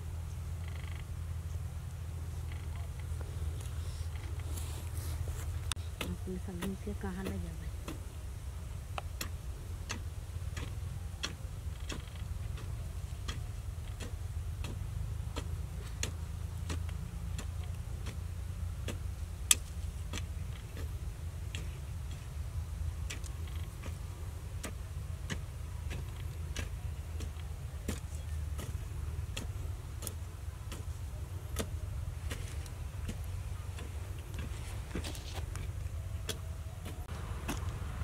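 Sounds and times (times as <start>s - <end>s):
hoe chopping hard soil: 5.6s - 38.0s.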